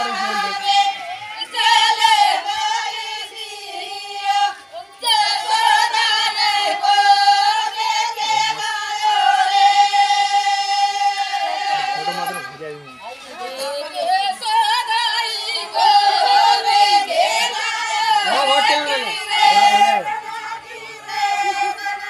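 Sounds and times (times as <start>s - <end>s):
women singing together: 0.0s - 12.5s, 13.4s - 22.0s.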